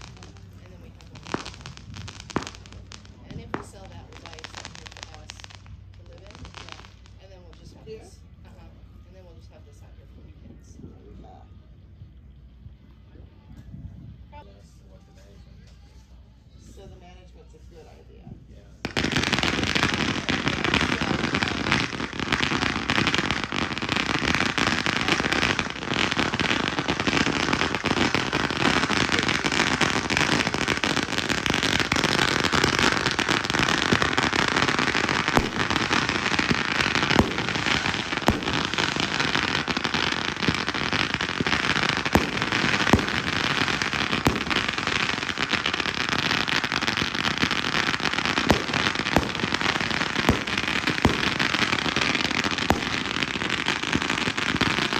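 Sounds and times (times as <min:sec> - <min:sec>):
fireworks bangs: 0:00.0 - 0:08.2, 0:17.7 - 0:54.9
fireworks crackling: 0:00.0 - 0:11.4, 0:14.4 - 0:54.9.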